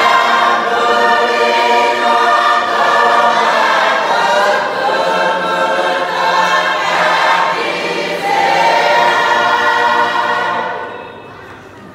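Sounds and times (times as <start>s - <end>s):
congregation singing a hymn: 0.0s - 11.6s.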